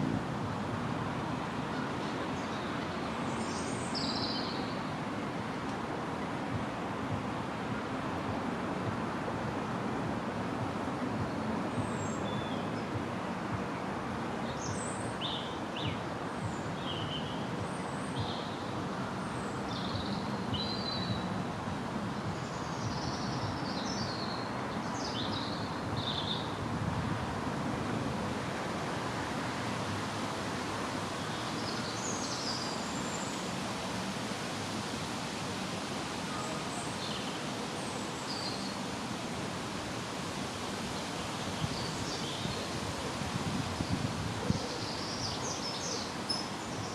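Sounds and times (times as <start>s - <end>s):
steady background hiss: 0.0s - 46.9s.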